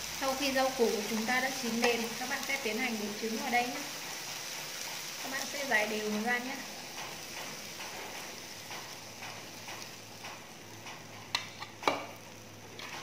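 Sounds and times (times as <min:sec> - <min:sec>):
egg sizzling in a pan: 0:00.0 - 0:13.0.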